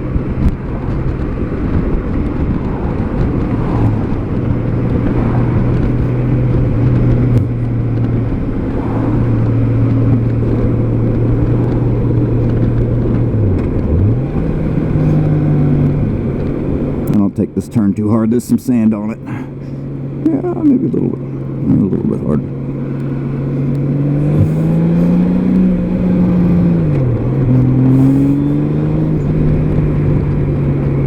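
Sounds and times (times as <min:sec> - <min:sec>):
wind noise: 0:00.0 - 0:17.6, 0:19.3 - 0:31.0
motorcycle engine running: 0:00.0 - 0:31.0.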